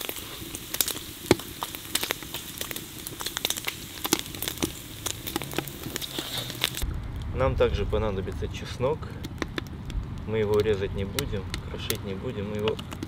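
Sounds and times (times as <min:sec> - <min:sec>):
fat sizzling with pops and crackles: 0:00.0 - 0:13.0.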